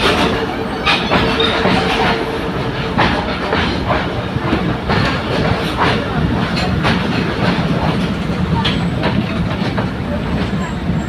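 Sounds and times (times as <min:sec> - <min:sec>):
train rumbling: 0:00.0 - 0:11.0
wheels clattering over rail joints: 0:00.0 - 0:11.0.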